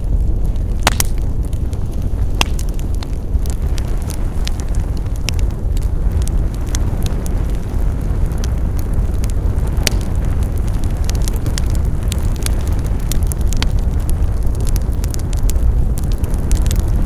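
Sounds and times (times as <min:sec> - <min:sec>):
fire crackles and pops: 0:00.0 - 0:17.0
fire low rumble: 0:00.0 - 0:17.0.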